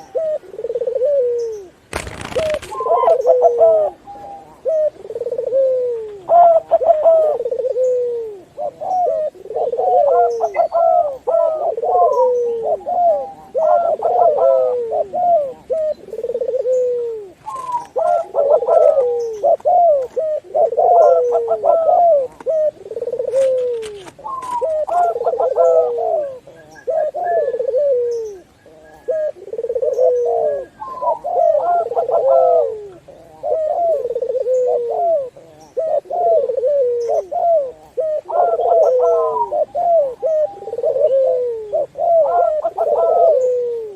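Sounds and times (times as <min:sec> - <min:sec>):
doves cooing: 0:00.0 - 0:43.9.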